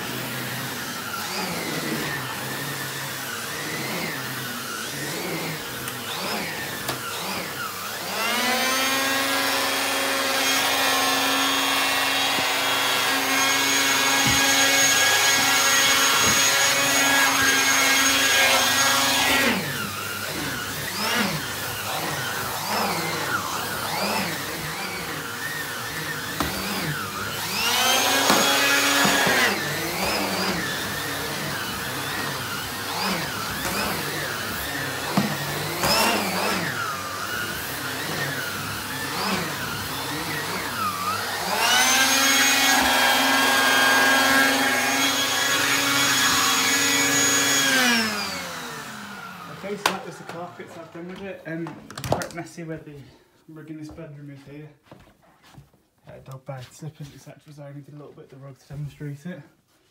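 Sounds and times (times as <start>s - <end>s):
vacuum cleaner running: 0.0s - 51.8s.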